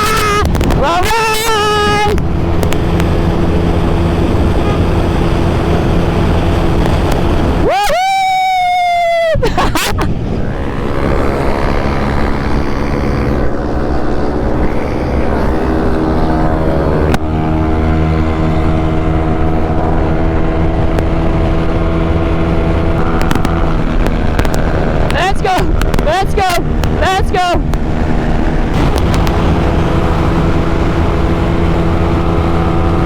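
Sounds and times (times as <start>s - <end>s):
scooter engine running: 0.0s - 33.0s.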